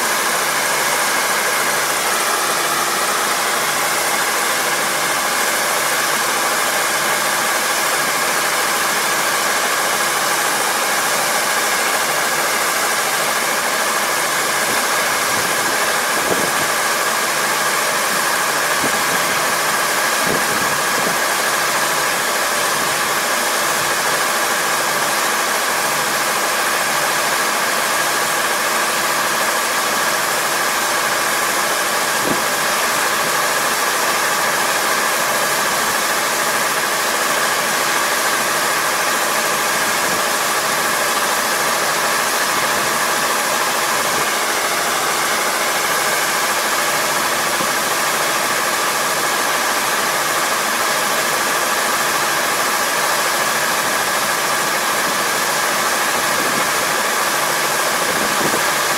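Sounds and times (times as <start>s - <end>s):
combine harvester running: 0.0s - 58.9s.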